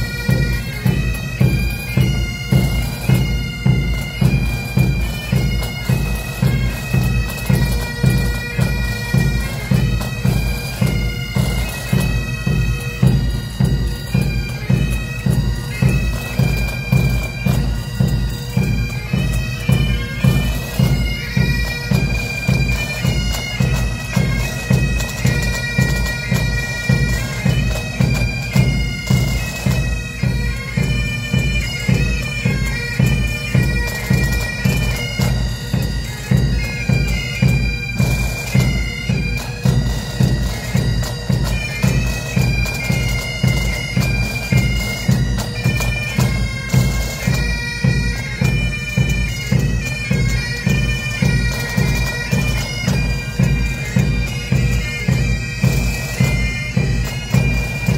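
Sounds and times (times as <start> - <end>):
bagpipe drones: 0.0 - 57.9
bagpipes playing a tune: 0.0 - 57.9
drums keeping a beat: 0.0 - 57.9.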